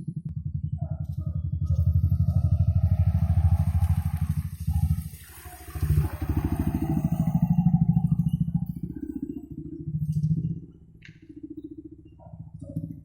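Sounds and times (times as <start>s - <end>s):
motorcycle engine under load: 0.0s - 11.4s.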